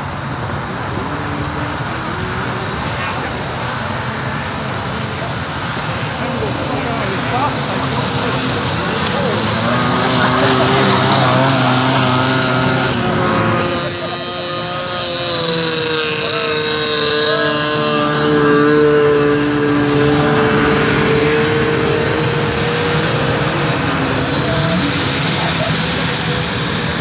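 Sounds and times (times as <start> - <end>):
snowmobile engines passing: 0.0 - 27.0.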